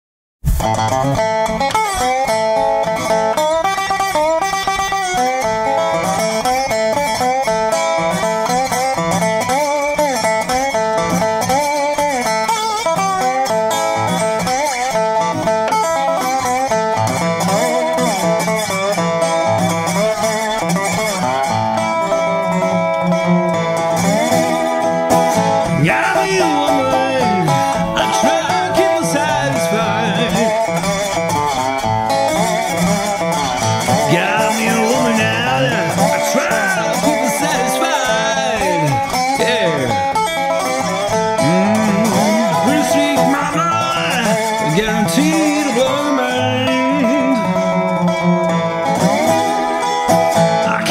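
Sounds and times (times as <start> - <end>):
acoustic blues guitar: 0.4 - 50.9.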